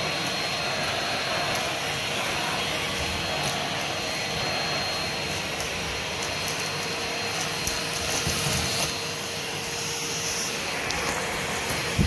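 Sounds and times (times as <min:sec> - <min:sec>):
vacuum cleaner on rug: 0:00.0 - 0:12.0.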